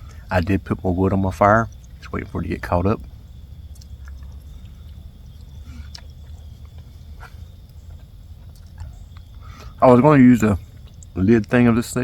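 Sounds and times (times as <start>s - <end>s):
campfire logs crackling: 0.0s - 12.0s
low steady fire rumble: 0.0s - 12.0s.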